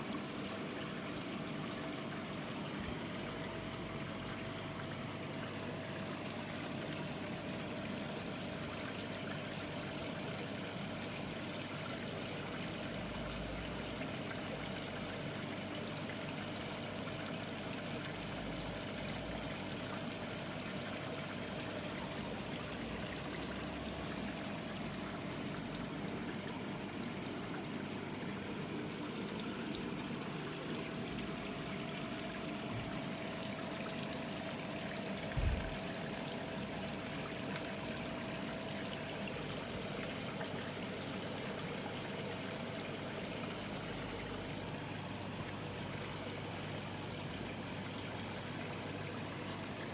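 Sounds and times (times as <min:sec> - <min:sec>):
faint steady hum: 0:00.0 - 0:49.9
water pouring and trickling: 0:00.0 - 0:49.9.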